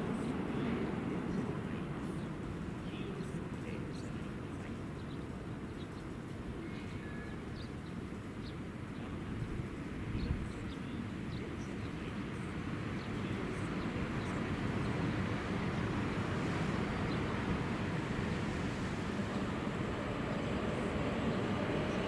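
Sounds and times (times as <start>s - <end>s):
train rumble: 0.0s - 7.5s, 9.3s - 22.0s.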